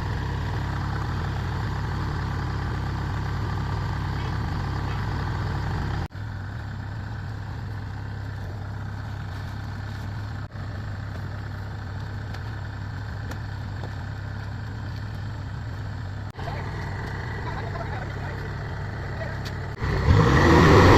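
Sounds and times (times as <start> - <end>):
heavy diesel engine humming: 0.0 - 20.9.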